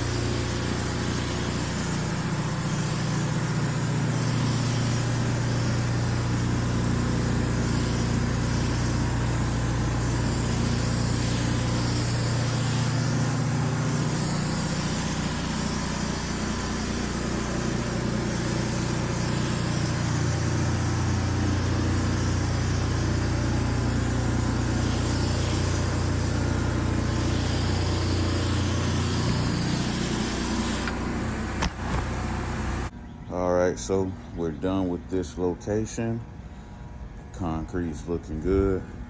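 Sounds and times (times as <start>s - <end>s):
even hiss: 0.0s - 32.9s
engine droning: 0.0s - 39.0s.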